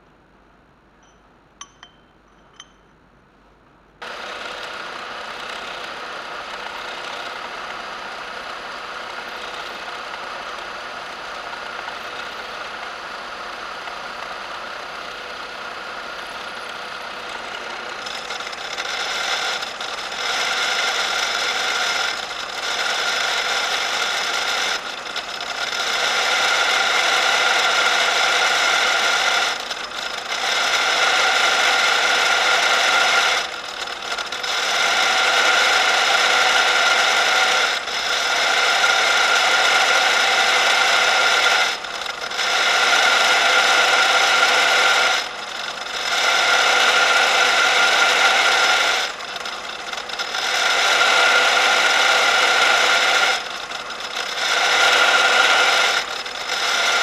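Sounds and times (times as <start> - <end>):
power drill boring into steel: 4.0 - 57.0.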